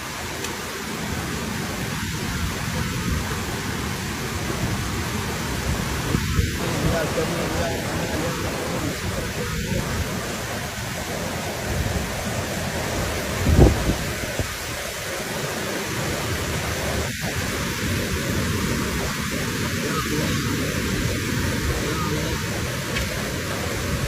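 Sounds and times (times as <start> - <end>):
rushing flood torrent: 0.0 - 24.0.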